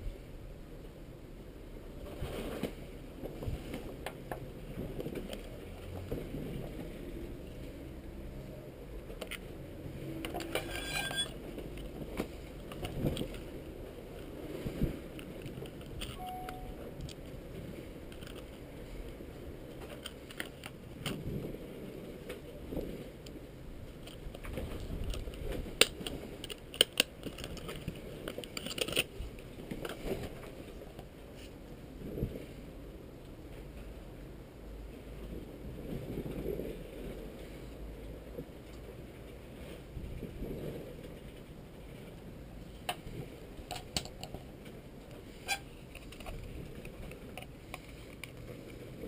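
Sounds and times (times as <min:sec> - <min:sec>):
steady low rumble: 0:00.0 - 0:26.5, 0:27.1 - 0:49.0.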